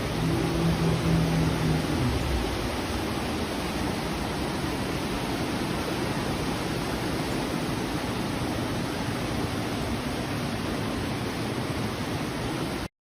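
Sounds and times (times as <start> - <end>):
storm water rushing: 0.0 - 12.9.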